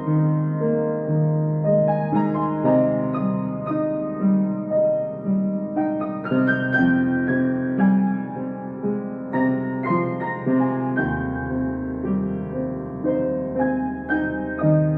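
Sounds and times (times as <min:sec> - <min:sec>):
slow solo piano piece: 0:00.0 - 0:14.9.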